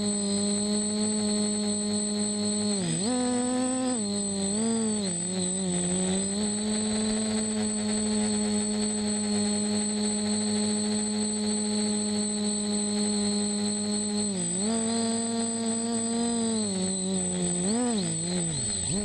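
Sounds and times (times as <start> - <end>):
drone motors and propellers humming: 0.0 - 19.0
thin high whine: 0.0 - 19.0.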